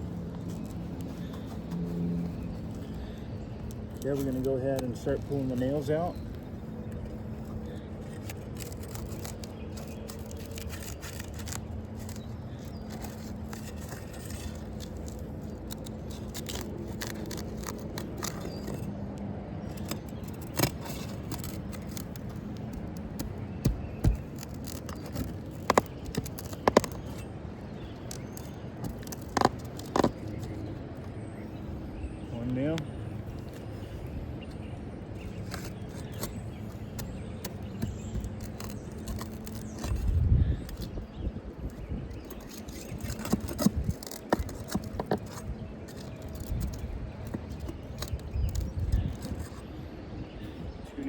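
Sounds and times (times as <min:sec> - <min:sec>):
tool scraping under shingles: 0:00.0 - 0:50.7.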